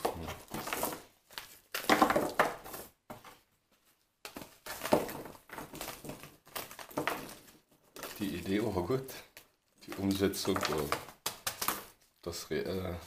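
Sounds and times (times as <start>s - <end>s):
plastic sheet crinkling: 0.0s - 12.4s.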